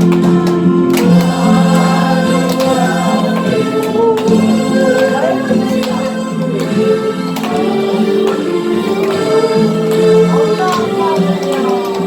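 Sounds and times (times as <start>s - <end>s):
harmonica ensemble playing: 0.0s - 12.0s
light clicks keeping a beat: 0.0s - 12.0s.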